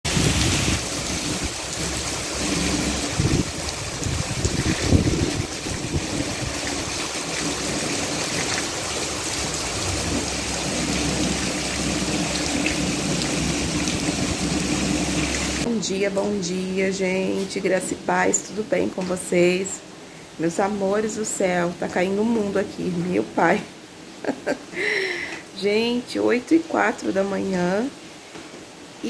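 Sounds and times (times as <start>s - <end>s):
heavy rain pouring: 0.1s - 29.0s.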